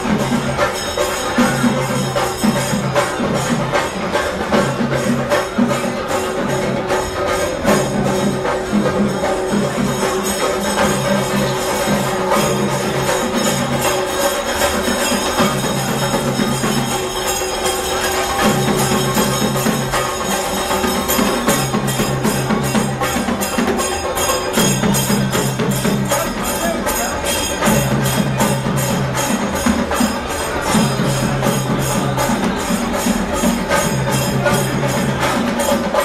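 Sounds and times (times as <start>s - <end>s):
music with percussive beat: 0.0s - 36.0s.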